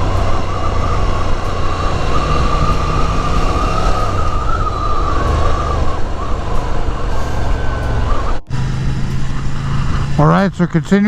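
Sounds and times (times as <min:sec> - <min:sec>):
faint wavering whistle: 0:00.0 - 0:10.2
motorcycle engine cruising: 0:00.0 - 0:11.0
rushing wind: 0:00.0 - 0:11.0.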